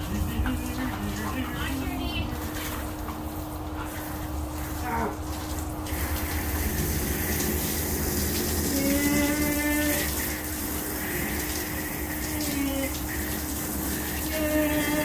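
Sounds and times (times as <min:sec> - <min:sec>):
garden hose spraying water: 0:00.0 - 0:15.0
steady hum: 0:00.0 - 0:15.0.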